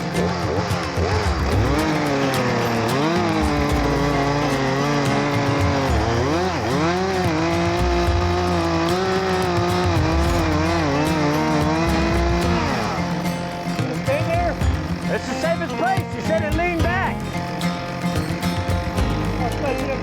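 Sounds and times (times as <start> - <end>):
chainsaw cutting tree: 0.0 - 20.0.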